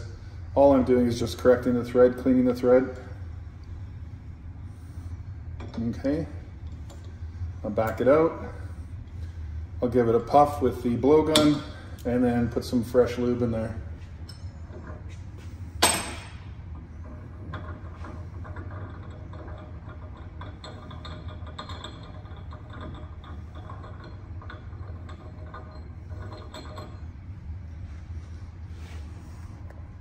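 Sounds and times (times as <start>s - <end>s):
low shop hum: 0.0s - 30.0s.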